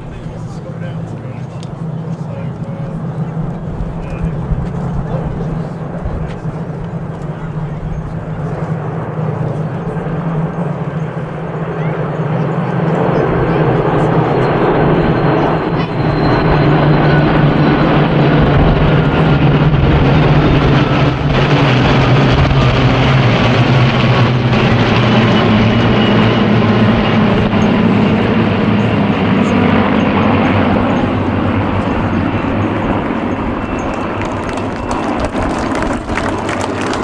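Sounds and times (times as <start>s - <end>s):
piston aircraft engines droning: 0.0s - 37.0s.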